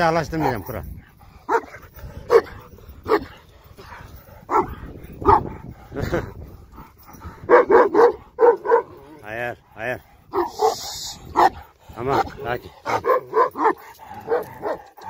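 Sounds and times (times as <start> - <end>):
large dog barking: 0.2 - 6.3, 7.1 - 9.4, 10.0 - 15.0.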